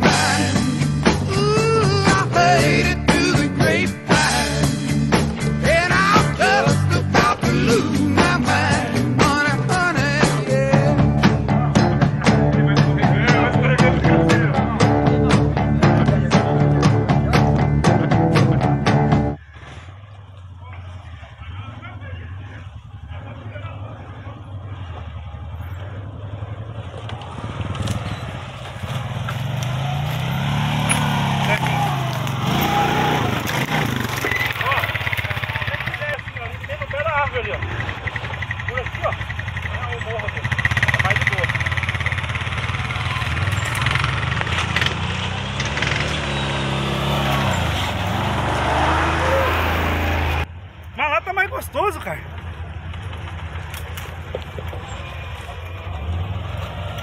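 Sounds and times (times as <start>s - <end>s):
quad bike engine running: 0.0s - 50.5s, 52.2s - 57.0s.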